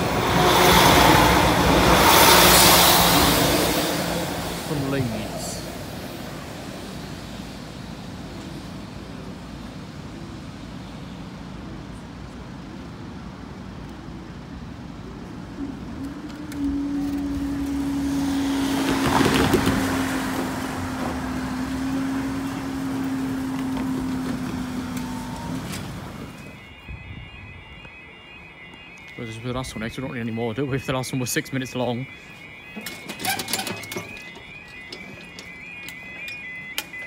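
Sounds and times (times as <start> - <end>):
diesel train engine hum: 0.0 - 37.0.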